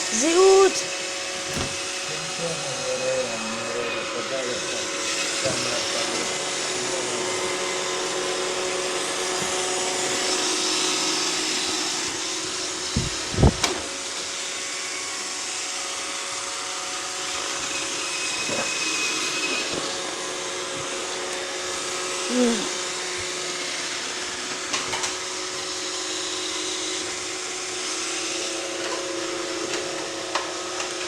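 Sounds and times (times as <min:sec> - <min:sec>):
robot vacuum whirring: 0:00.0 - 0:31.0.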